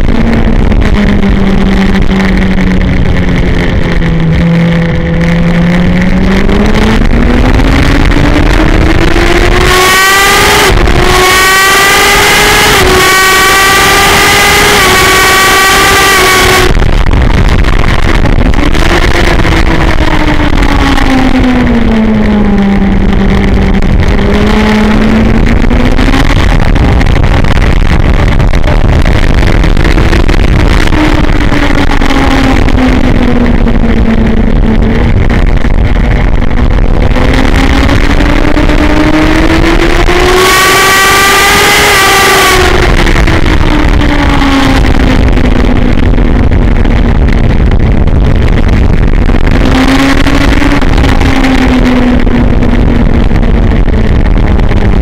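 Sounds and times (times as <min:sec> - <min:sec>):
motorcycle engine at racing speed: 0:00.0 - 0:55.0
wind rush on microphone: 0:00.0 - 0:55.0.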